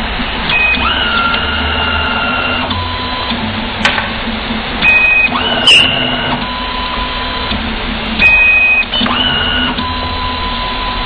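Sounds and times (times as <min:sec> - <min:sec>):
machine motors whining: 0:00.3 - 0:11.0.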